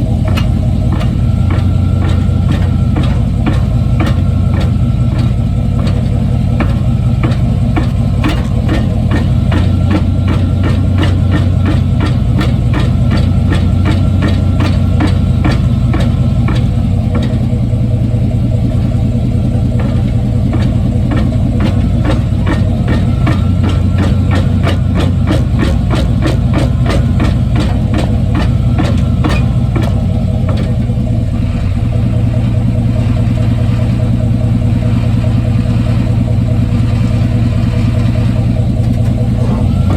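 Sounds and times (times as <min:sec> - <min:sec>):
drivetrain knocking: 0:00.0 - 0:39.9
truck engine running: 0:00.0 - 0:39.9.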